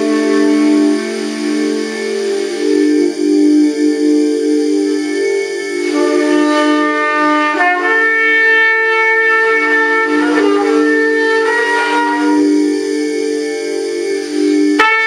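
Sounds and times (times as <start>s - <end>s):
sustained low chord: 0.0s - 15.0s
trumpet long notes: 0.0s - 15.0s.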